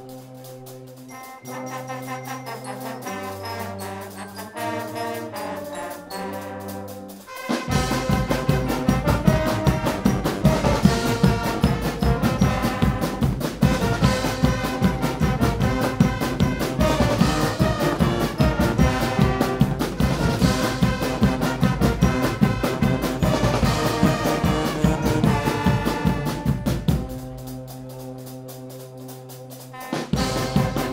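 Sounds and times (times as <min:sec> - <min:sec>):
brass band playing: 0:00.0 - 0:30.9
drums and cymbals: 0:00.0 - 0:30.9.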